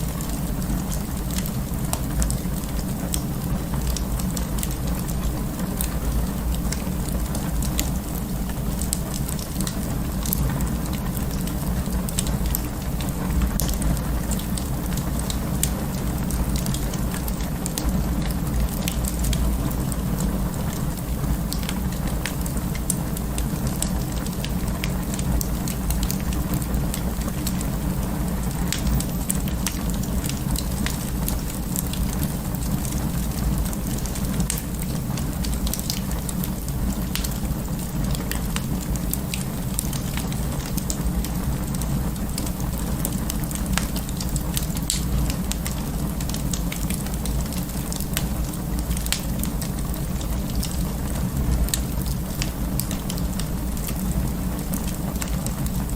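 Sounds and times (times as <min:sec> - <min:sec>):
fire popping and snapping: 0:00.0 - 0:55.9
low rumble of flames: 0:00.0 - 0:55.9
wood fire crackling: 0:00.0 - 0:55.9.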